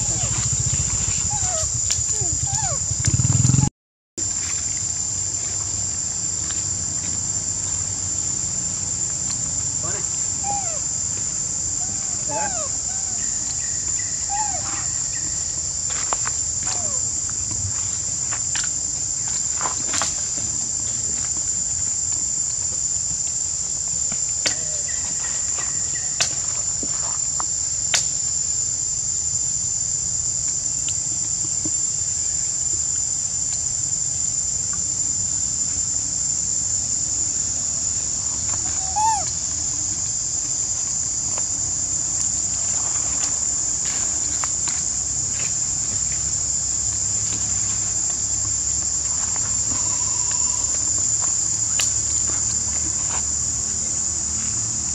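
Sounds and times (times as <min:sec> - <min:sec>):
shrill insect chorus: 0:00.0 - 0:54.9.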